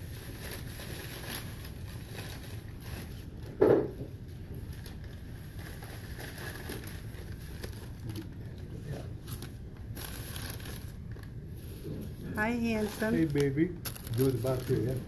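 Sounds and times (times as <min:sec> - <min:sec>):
low room hum: 0:00.0 - 0:15.0
faint rustling and handling: 0:00.1 - 0:15.0.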